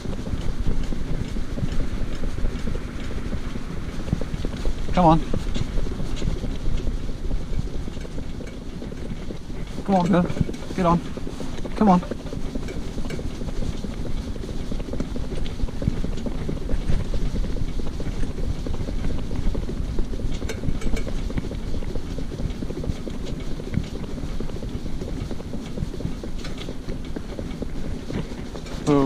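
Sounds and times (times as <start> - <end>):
cart wheels rumbling on road: 0.0 - 29.0
hooves on tarmac: 0.0 - 29.0
wind buffeting microphone: 0.0 - 29.0.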